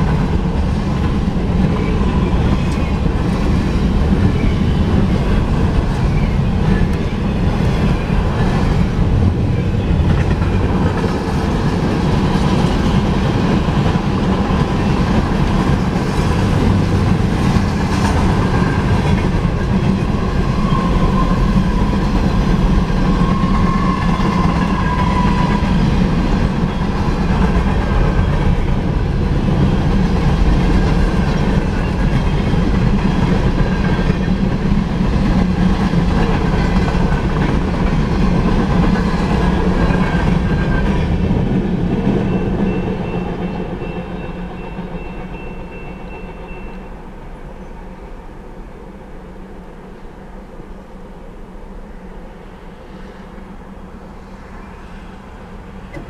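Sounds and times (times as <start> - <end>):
steel train wheels rumbling on rails: 0.0 - 56.0.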